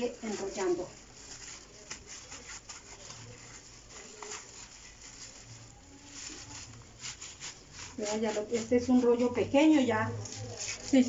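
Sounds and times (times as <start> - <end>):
hands rolling dough on a surface: 0.0 - 11.0.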